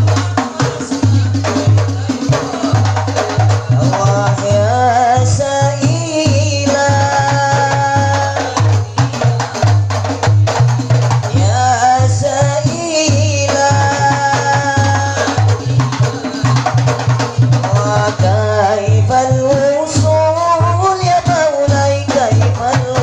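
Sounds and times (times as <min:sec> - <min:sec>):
frame drums and bass drum: 0:00.0 - 0:23.0.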